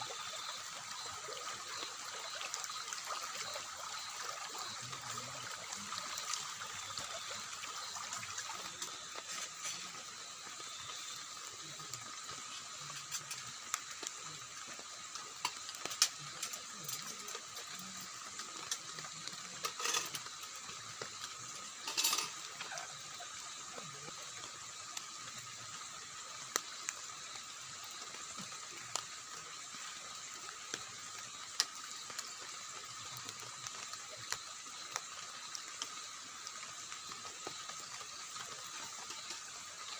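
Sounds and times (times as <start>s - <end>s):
water rushing: 0.0s - 39.9s
water spatters: 0.0s - 39.9s.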